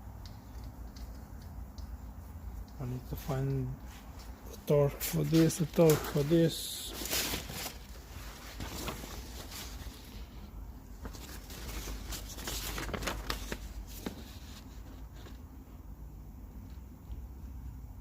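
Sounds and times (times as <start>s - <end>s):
rustling of handled things: 0.1s - 15.5s.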